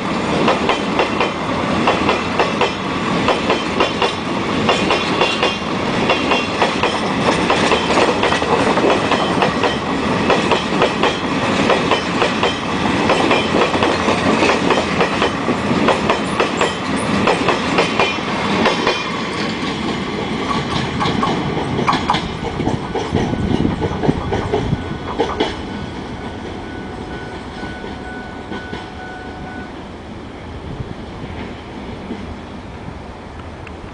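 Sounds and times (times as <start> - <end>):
train rumble: 0.0 - 33.9
train wheels clacking on rail joints: 0.3 - 29.0.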